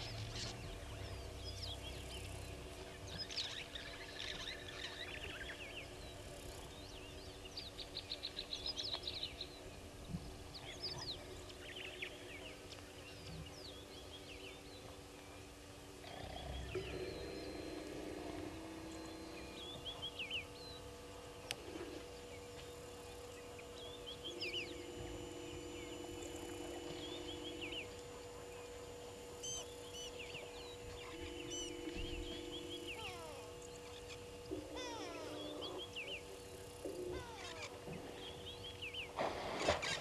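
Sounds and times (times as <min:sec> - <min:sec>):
low hum: 0:00.0 - 0:40.0
wild birds chirping: 0:00.0 - 0:40.0.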